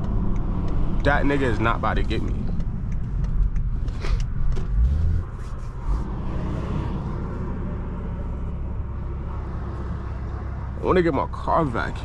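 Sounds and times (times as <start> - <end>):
car engine accelerating: 0.0 - 12.0
exhaust crackles: 0.0 - 12.0.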